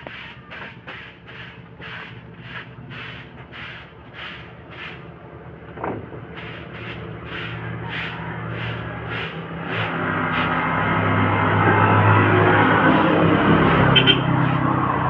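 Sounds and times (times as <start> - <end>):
broom sweeping ground: 0.0 - 5.2, 6.2 - 15.0.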